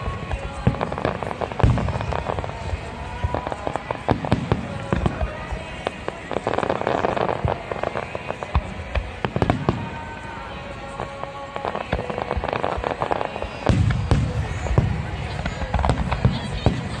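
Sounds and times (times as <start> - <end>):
deep fireworks booms: 0.0 - 17.0
fireworks crackling and banging: 0.0 - 17.0.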